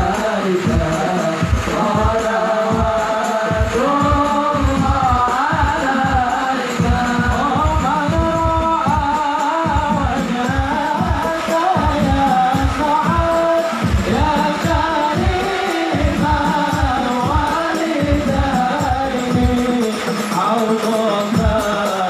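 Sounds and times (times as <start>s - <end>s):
hand drums beating: 0.0s - 22.0s
person singing devotional song: 0.0s - 22.0s.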